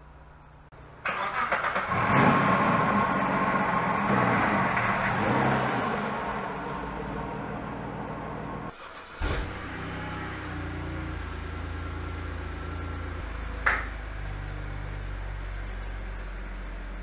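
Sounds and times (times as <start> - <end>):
car engine idling: 0.1 - 17.0.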